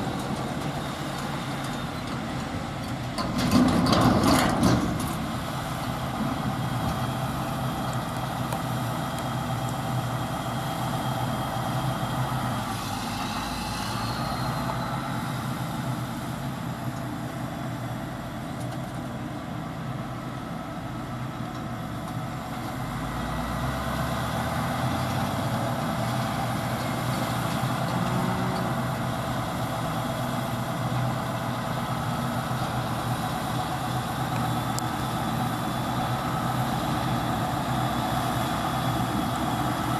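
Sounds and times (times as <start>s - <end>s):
farm machinery running: 0.0s - 39.9s.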